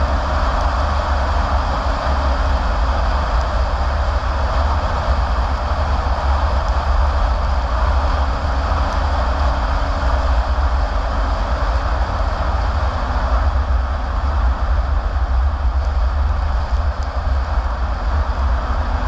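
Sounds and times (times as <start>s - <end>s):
car tyre road noise: 0.0s - 19.0s.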